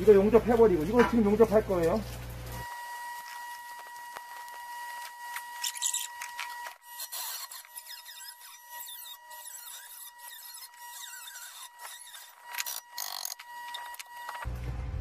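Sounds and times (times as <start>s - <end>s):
welding arc crackling: 0.0s - 14.5s.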